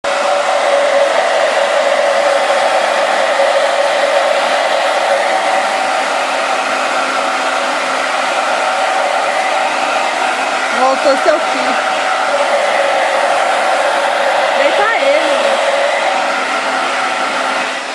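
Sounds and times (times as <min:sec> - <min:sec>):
hair dryer blowing: 0:00.0 - 0:17.9.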